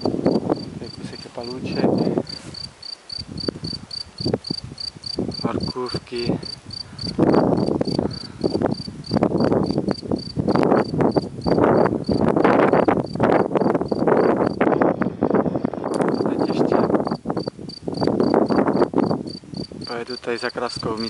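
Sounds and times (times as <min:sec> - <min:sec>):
cricket chirping: 0:00.0 - 0:21.0
low rushing noise on microphone: 0:00.0 - 0:21.0.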